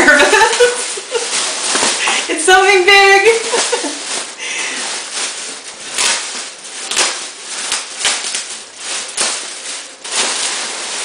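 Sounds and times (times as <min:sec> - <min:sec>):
plastic and paper wrapping crinkling: 0:00.0 - 0:11.0.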